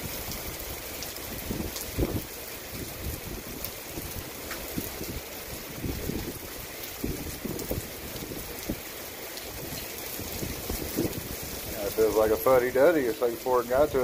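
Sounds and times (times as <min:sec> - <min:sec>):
wind buffeting microphone: 0:00.0 - 0:12.9
steady rain hissing: 0:00.0 - 0:14.0.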